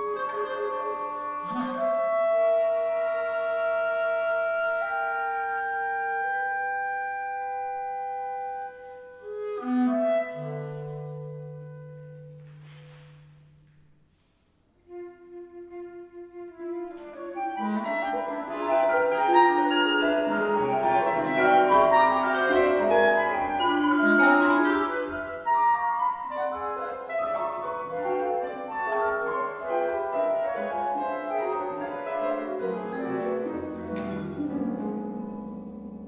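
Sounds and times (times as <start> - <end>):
chamber ensemble playing contemporary music: 0.0 - 36.0.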